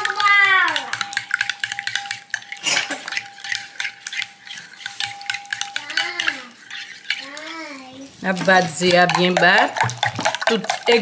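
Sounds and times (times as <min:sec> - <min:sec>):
spoon clinking on glass bowl: 0:00.0 - 0:11.0
wet stirring: 0:00.0 - 0:11.0.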